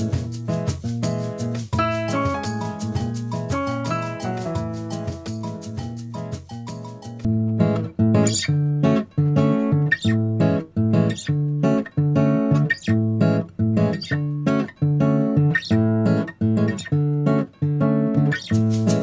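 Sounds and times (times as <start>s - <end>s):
guitar chords strummed: 0.0s - 19.0s.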